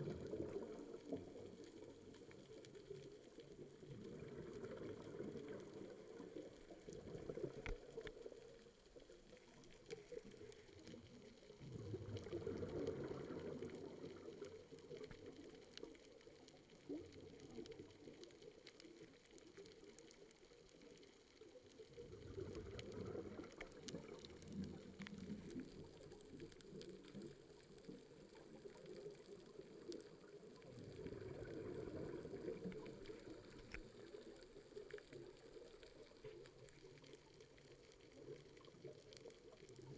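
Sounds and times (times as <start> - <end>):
faint clicks: 0.0 - 39.9
underwater exhaled bubbles: 0.0 - 39.9.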